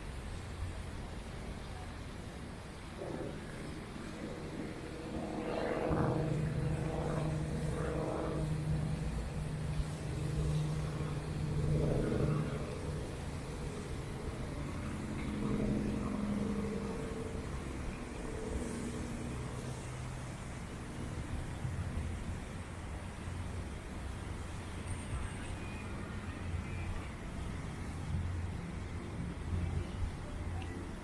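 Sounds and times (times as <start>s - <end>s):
city hum: 0.0s - 31.0s
vehicles passing: 0.0s - 31.0s.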